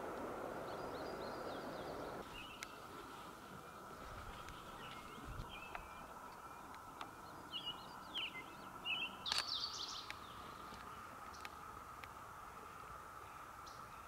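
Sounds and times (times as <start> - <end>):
faint steady hiss: 0.0 - 14.0
small birds chirping: 0.6 - 14.0.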